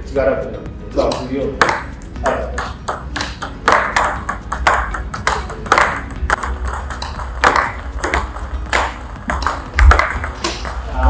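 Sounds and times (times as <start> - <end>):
table tennis ball clicks: 1.1 - 10.9.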